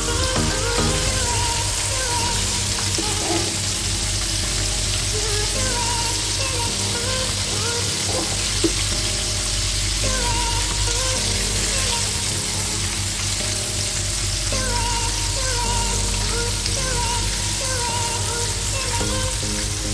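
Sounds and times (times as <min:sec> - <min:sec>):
background music: 0:00.0 - 0:19.9.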